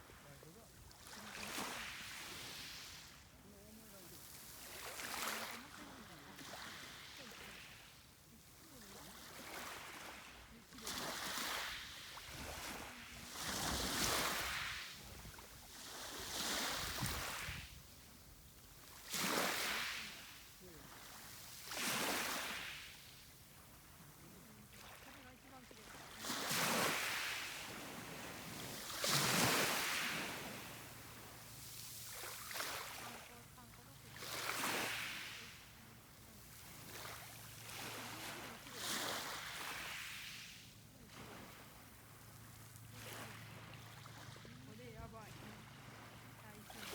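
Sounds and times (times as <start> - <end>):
sea waves washing onto shore: 0.0 - 46.9.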